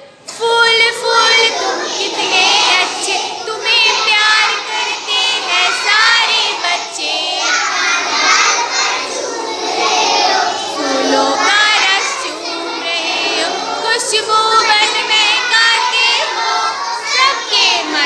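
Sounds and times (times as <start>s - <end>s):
children singing in chorus: 0.3s - 18.0s.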